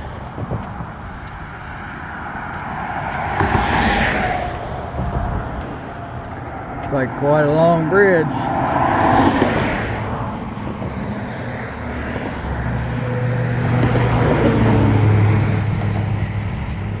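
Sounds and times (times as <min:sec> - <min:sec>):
heavy vehicle engine hum: 0:00.0 - 0:17.0
rush of tyres: 0:00.0 - 0:17.0.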